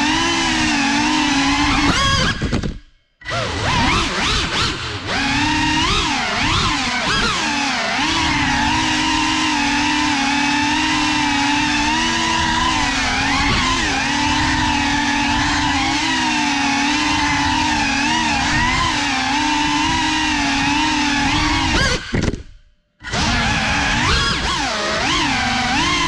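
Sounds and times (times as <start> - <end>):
quadcopter motors whining: 0.0 - 22.3, 23.0 - 26.0.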